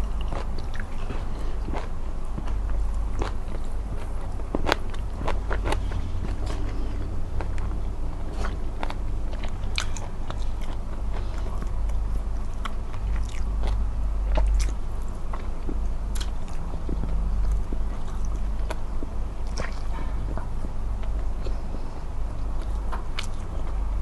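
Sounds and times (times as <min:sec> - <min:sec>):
biting and chewing: 0:00.0 - 0:24.0
low rumble: 0:00.0 - 0:24.0.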